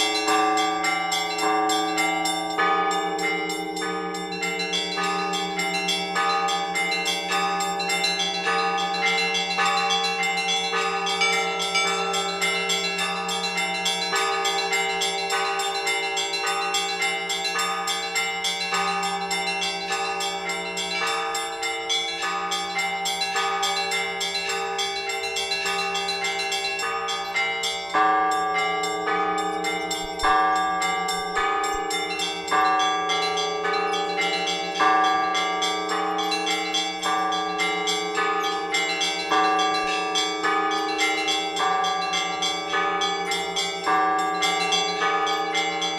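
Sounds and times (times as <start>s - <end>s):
heavy bell striking: 0.0s - 45.9s
large church bells ringing: 0.0s - 45.9s
small church bells chiming: 0.0s - 45.9s.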